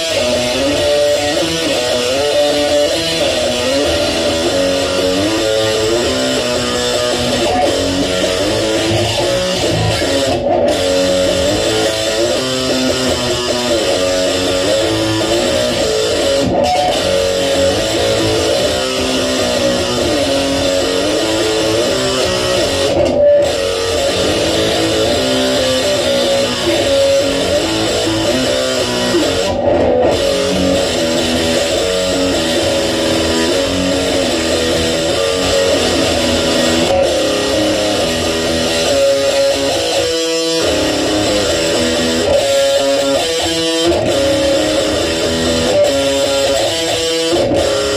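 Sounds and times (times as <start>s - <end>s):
electric guitar riff: 0.0s - 47.9s.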